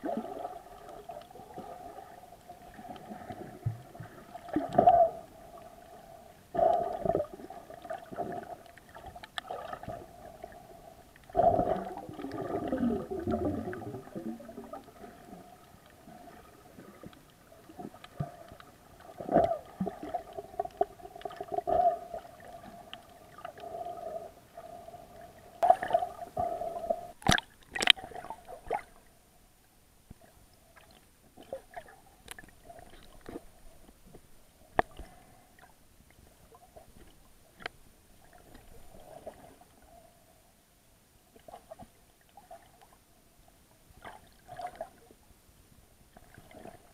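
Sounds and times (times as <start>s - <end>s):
water gurgling and sloshing underwater: 0.0s - 46.9s.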